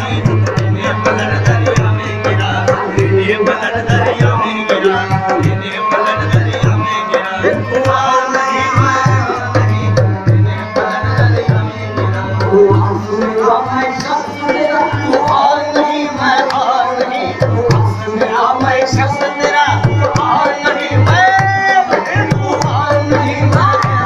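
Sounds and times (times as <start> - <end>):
harmonium melody: 0.0 - 24.0
tabla rhythm with booming bass: 0.0 - 24.0.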